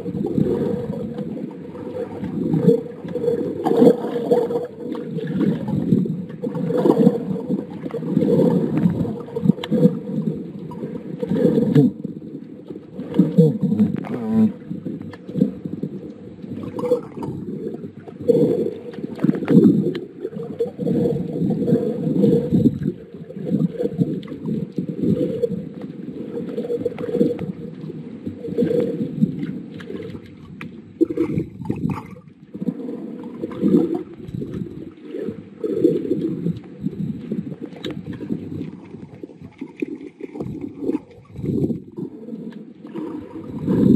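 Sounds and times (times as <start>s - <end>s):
muffled underwater water movement: 0.0s - 43.9s.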